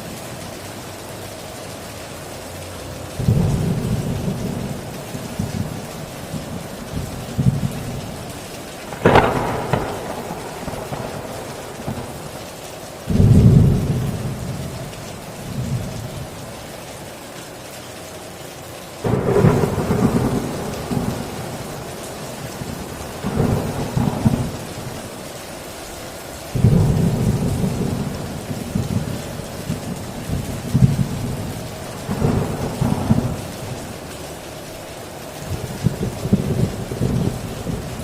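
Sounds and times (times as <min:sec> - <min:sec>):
heavy rain on a tin roof: 0:00.0 - 0:38.0
thunder rumbles: 0:03.2 - 0:16.5, 0:19.0 - 0:25.7, 0:26.4 - 0:34.6, 0:35.4 - 0:38.0.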